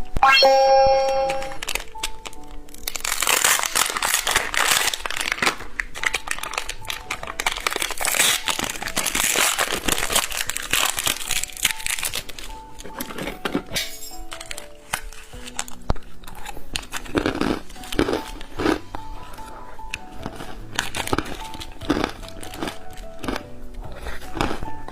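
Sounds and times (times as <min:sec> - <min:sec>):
quiet background music: 0:00.0 - 0:24.9
plastic candy wrapper crackling: 0:01.1 - 0:24.9.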